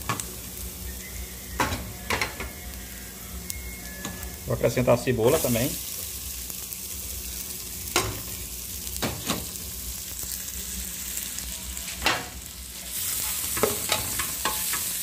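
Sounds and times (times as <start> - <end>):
onion and garlic sizzling in fat: 0.0 - 15.0.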